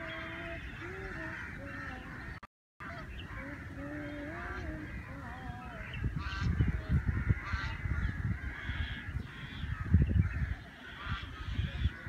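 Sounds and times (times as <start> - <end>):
birds calling: 0.0 - 12.0
wind buffeting microphone: 0.0 - 12.0.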